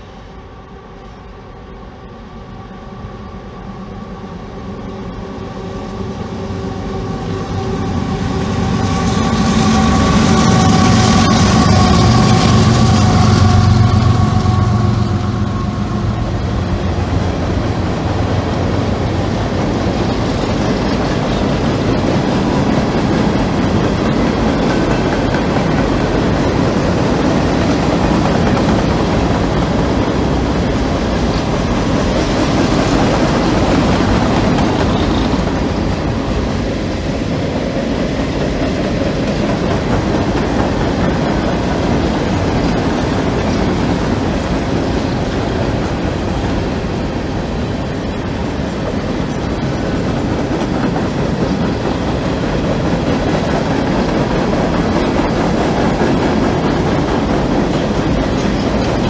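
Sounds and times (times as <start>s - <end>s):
train cars rolling past: 0.0s - 59.0s.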